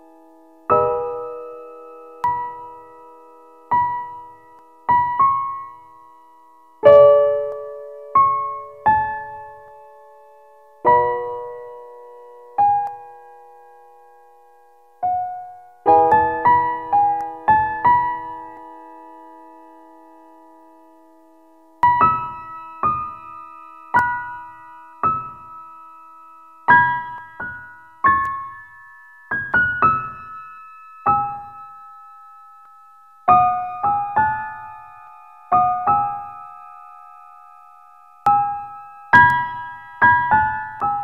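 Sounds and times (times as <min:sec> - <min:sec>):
slow piano music: 0:00.0 - 0:41.0.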